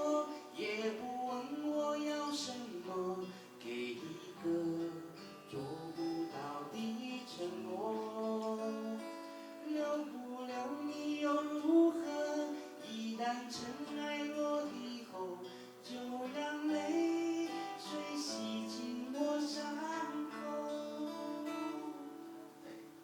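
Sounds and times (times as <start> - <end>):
person singing: 0.0 - 23.0
strummed acoustic guitar: 0.0 - 23.0.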